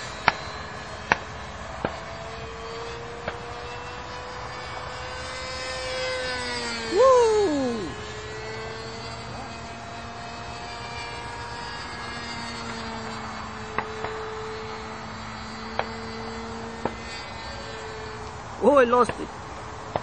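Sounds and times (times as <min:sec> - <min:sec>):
model airplane engine droning: 0:00.0 - 0:20.0.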